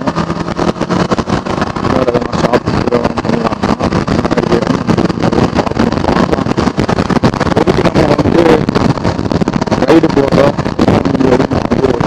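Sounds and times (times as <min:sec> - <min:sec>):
gusty wind noise: 0:00.0 - 0:12.0
motorcycle engine running: 0:00.0 - 0:12.0.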